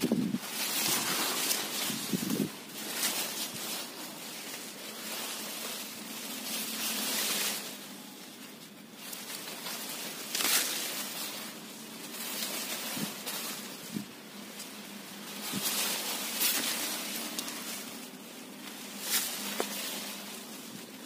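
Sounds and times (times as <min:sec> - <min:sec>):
leaves and stems rustling: 0:00.0 - 0:21.0.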